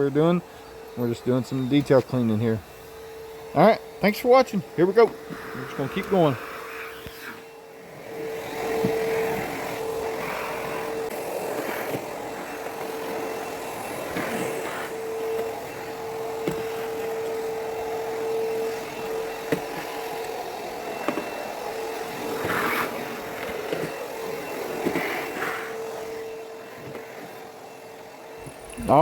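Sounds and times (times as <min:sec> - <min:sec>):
backpack vacuum running: 0:00.0 - 0:29.0.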